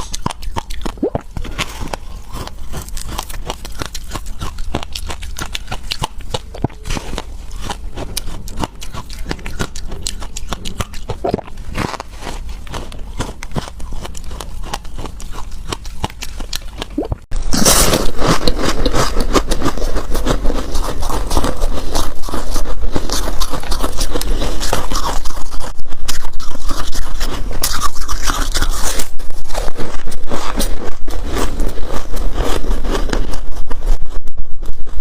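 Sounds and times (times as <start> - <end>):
frost being scraped: 0.0 - 35.0.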